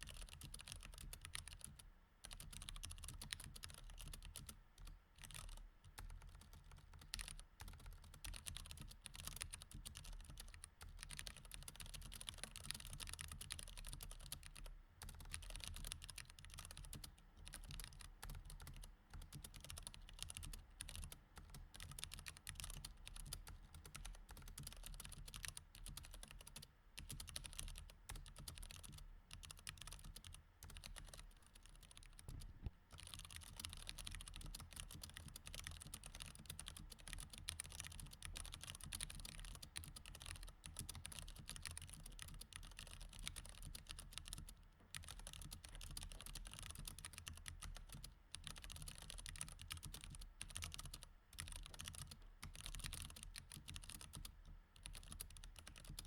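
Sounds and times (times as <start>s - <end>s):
faint low hum: 0.0s - 56.0s
mechanical keyboard typing: 0.0s - 56.0s.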